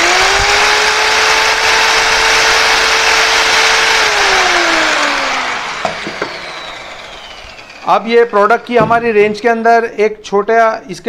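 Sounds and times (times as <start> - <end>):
polisher motor whine: 0.0 - 9.6.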